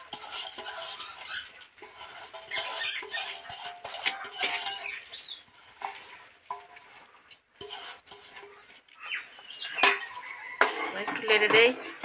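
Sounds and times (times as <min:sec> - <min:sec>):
fingers scraping metal bowl: 0:00.0 - 0:12.0.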